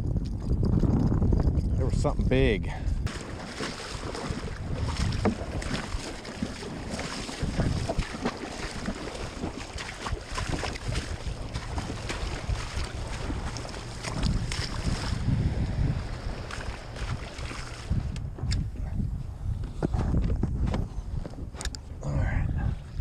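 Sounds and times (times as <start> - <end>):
wind buffeting microphone: 0.0 - 23.0
water lapping against hull: 0.3 - 23.0.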